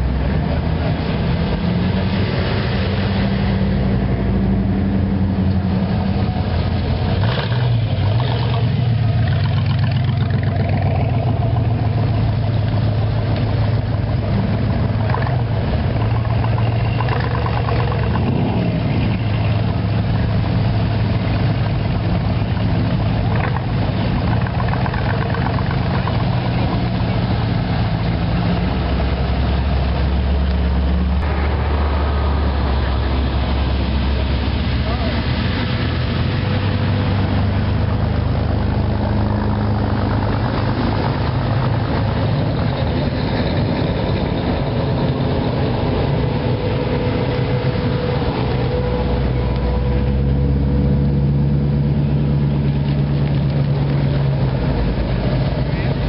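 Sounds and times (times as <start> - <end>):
classic car engines passing: 0.0 - 56.0.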